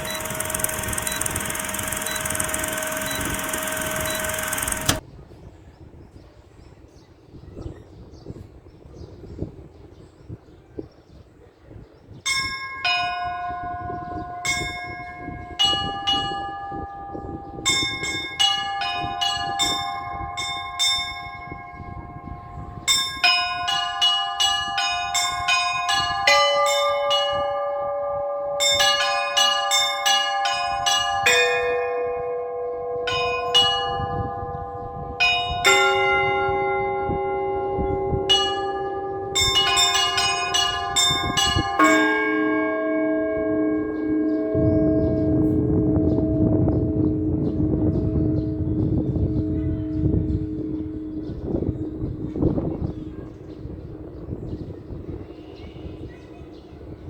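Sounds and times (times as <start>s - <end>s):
large low bells ringing: 0.0s - 5.0s, 12.2s - 57.0s
small high bells chiming: 0.0s - 5.0s, 12.4s - 57.0s.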